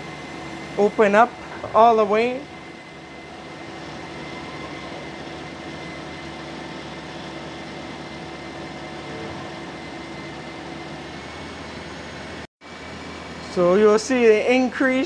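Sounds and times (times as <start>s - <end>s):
air conditioning whine: 0.0s - 15.0s.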